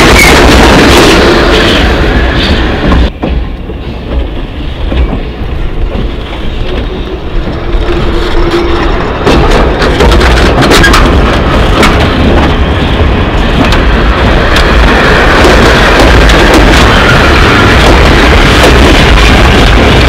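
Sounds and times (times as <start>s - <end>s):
train rumbling past: 0.0s - 20.0s
wheel clicks over rail joints: 2.4s - 20.0s.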